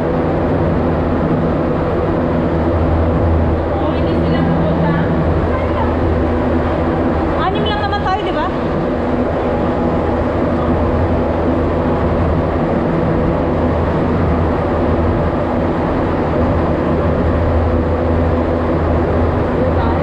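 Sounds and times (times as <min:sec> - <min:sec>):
metro train rumble: 0:00.0 - 0:20.0.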